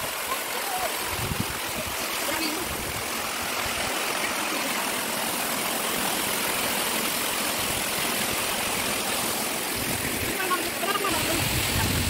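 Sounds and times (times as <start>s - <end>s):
rushing stream water: 0.0s - 12.0s.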